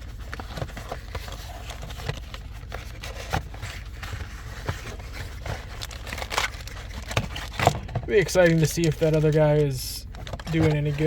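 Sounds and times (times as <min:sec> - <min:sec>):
cardboard box being opened: 0:00.0 - 0:11.0.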